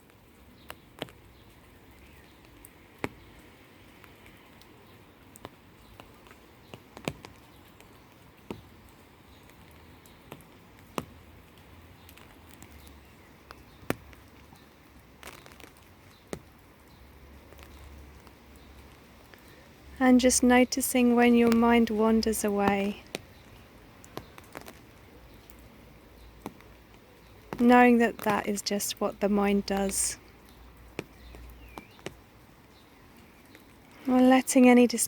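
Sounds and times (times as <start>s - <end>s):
faint steady hiss: 0.0s - 35.0s
raindrops tapping: 0.0s - 35.0s.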